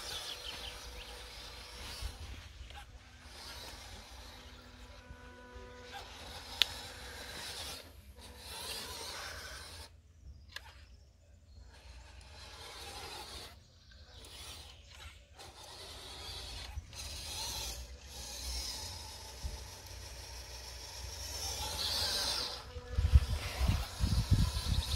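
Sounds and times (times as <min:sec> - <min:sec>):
tyres scraping through sand: 0:00.0 - 0:10.0, 0:11.7 - 0:24.9
electric motor and gearbox whirring: 0:00.0 - 0:24.9.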